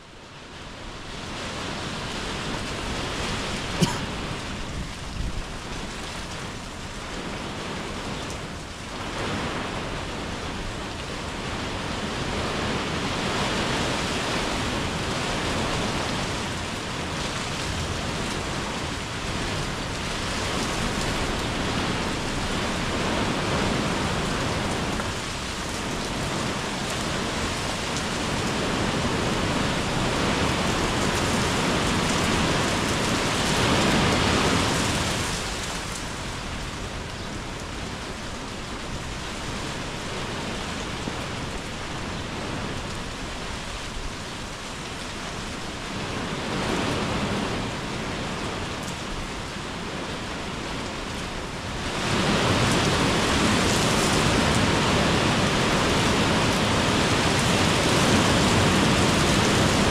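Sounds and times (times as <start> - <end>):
rain on paving and leaves: 0.0 - 59.9.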